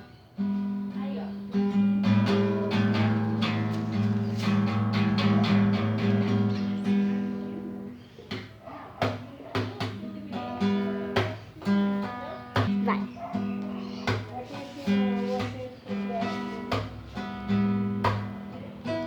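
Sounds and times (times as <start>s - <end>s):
acoustic guitar strumming: 0.0s - 8.0s, 9.6s - 19.0s.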